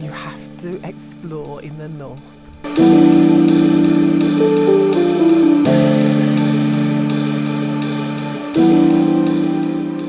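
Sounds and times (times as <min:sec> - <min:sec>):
steady ticking beat: 0:00.0 - 0:09.7
sustained music chords: 0:00.0 - 0:10.0.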